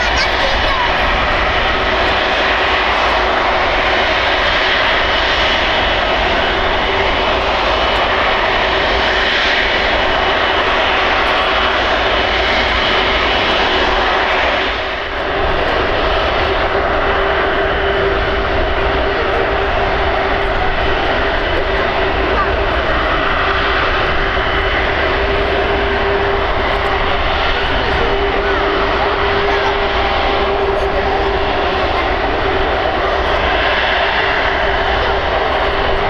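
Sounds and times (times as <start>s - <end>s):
jet engines roaring: 0.0s - 36.0s.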